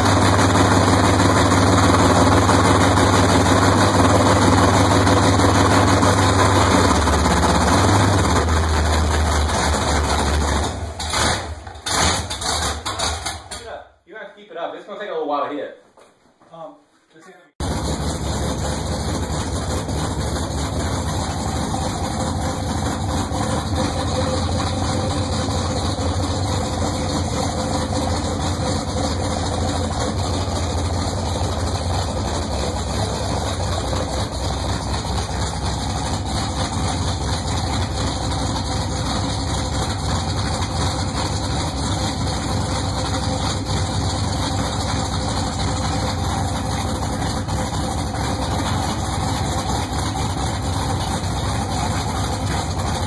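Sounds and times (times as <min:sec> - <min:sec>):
car engine running steadily: 0:00.0 - 0:12.6, 0:17.6 - 0:53.0.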